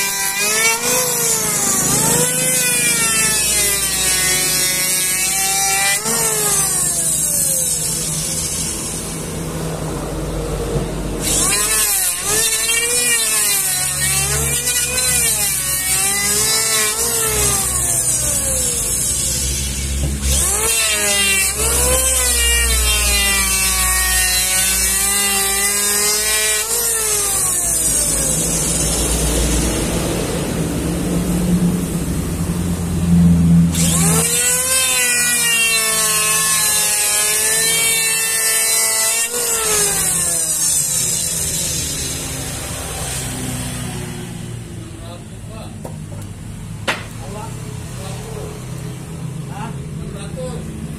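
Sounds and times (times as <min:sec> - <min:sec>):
electric planer shaving wood: 0:00.0 - 0:30.6, 0:33.6 - 0:44.7.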